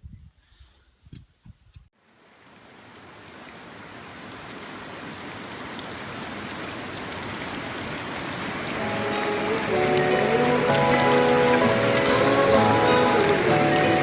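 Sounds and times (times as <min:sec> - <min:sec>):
rushing mountain stream: 0:02.1 - 0:14.0.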